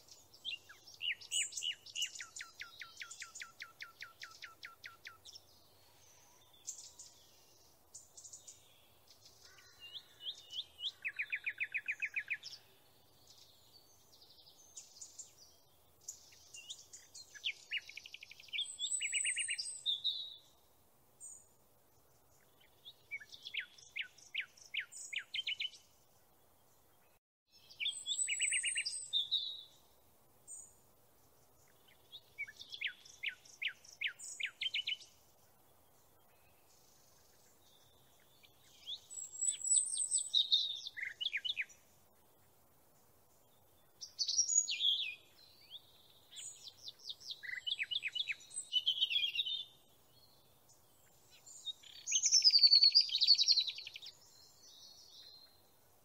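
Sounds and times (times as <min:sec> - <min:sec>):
songbird singing trills: 0:00.0 - 0:42.5, 0:43.3 - 0:56.0.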